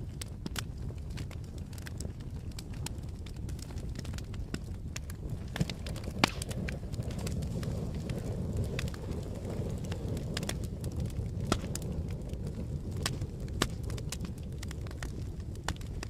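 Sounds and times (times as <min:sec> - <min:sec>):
burning wood crackling and popping: 0:00.0 - 0:16.0
campfire rumbling: 0:00.0 - 0:16.0.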